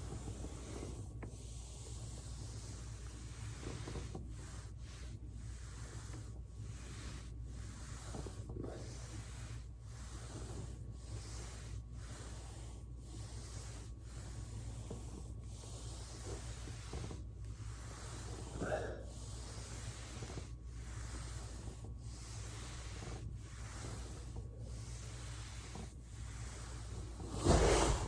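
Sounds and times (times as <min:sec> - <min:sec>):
background hiss and hum: 0:00.0 - 0:28.0
foam roller rubbing on mat: 0:00.0 - 0:28.0.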